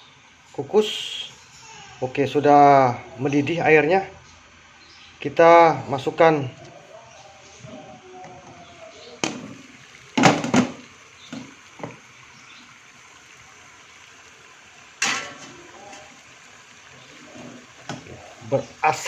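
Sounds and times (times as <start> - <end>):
boiling water hiss: 0.0 - 19.0.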